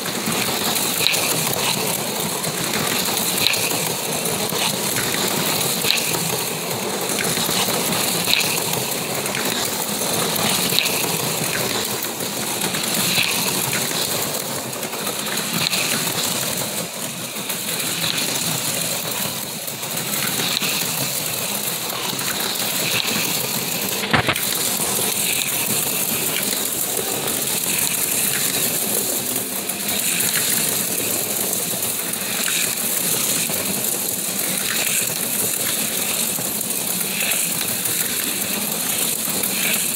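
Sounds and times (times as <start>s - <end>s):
slot cars whirring and rattling: 0.0s - 39.9s.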